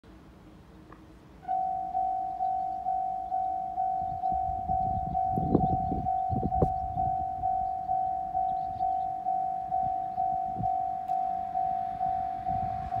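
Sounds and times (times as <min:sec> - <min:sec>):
level crossing bell ringing: 0:01.5 - 0:13.0.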